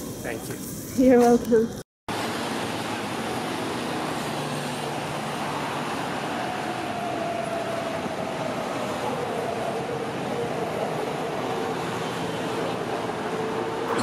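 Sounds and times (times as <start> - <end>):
vehicle running noise: 0.0 - 14.0.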